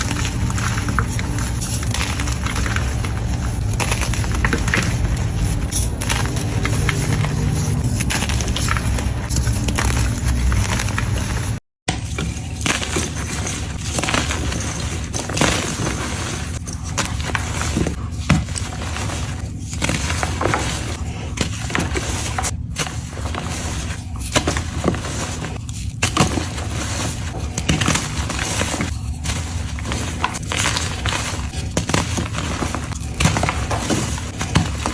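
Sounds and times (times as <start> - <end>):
concrete mixing scraping: 0.0 - 34.9.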